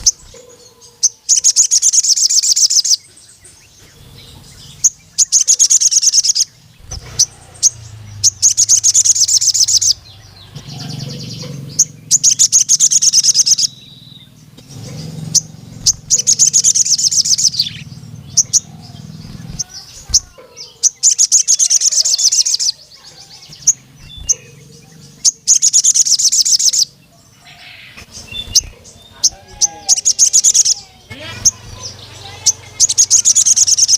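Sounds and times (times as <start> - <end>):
bird singing rapid high trills: 0.0 - 33.9.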